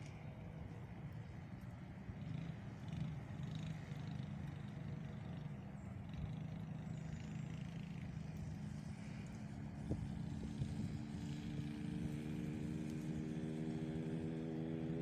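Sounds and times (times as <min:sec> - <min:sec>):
small engine running: 0:00.8 - 0:15.0.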